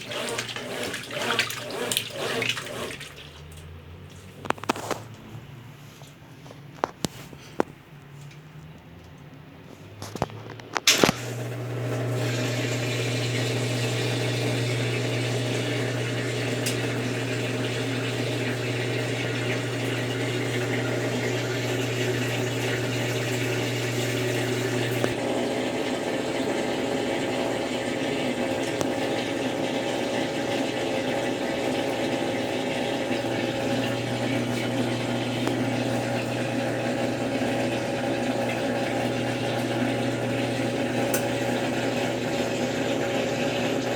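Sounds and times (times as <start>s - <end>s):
water rushing in washing machine: 0.0s - 5.2s, 9.9s - 43.9s.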